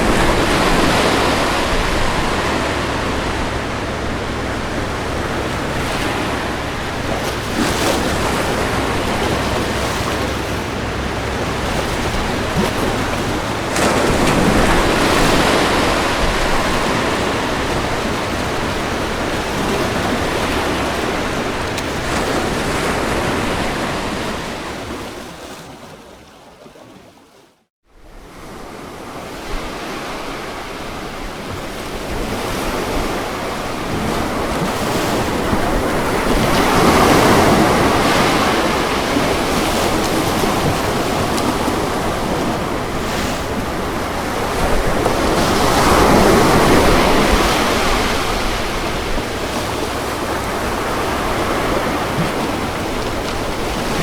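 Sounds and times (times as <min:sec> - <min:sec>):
ocean surf breaking on beach: 0:00.0 - 0:25.9, 0:28.0 - 0:54.0.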